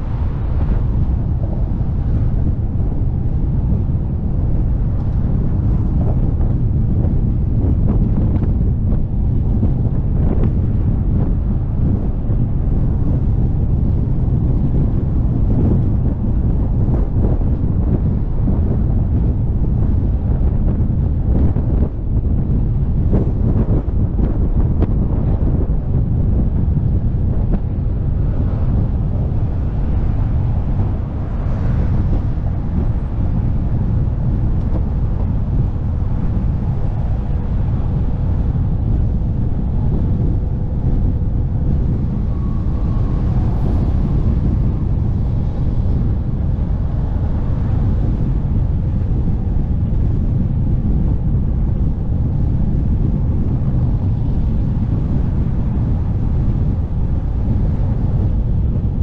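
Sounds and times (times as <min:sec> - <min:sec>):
rolling road noise: 0:00.0 - 0:59.0
wind rumble on microphone: 0:00.0 - 0:59.0.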